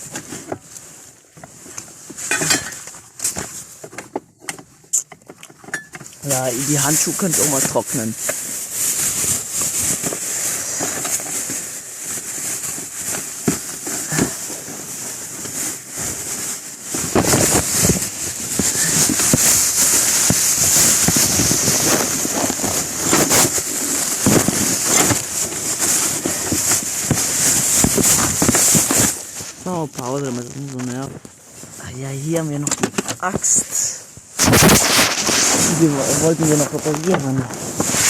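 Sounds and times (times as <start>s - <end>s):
wood fire crackling: 0.0s - 38.0s
steady high hiss: 6.2s - 38.0s.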